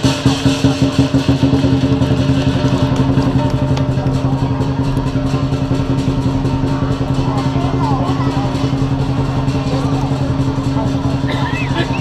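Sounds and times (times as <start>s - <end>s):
drum with gongs and cymbals: 0.0s - 12.0s.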